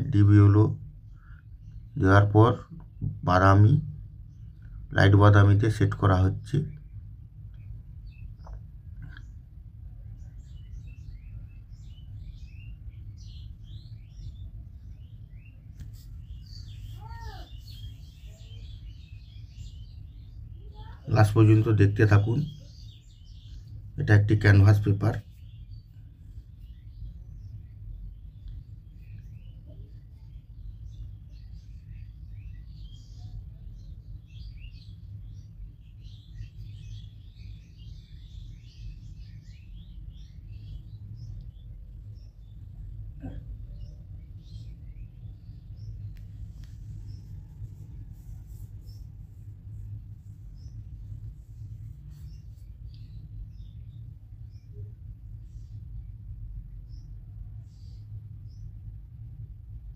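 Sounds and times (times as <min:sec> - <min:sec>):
steady low rumble: 0:00.0 - 0:17.0, 0:21.8 - 0:59.9
small birds chirping: 0:00.0 - 0:59.9
steady low hum: 0:00.0 - 0:59.9.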